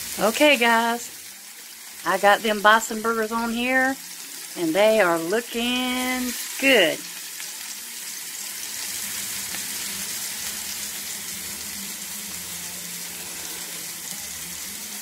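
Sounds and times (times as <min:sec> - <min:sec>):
patties sizzling on griddle: 0:00.0 - 0:15.0.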